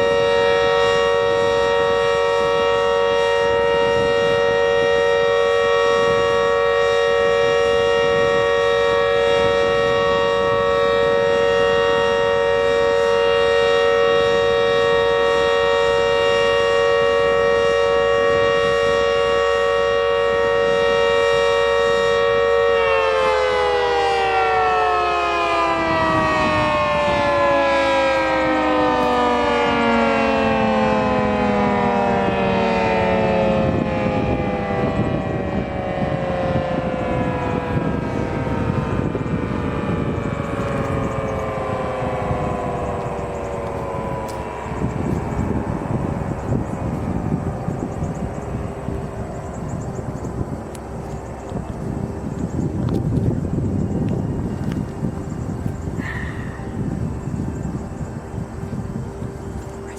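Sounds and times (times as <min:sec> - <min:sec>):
warning siren: 0:00.0 - 0:59.9.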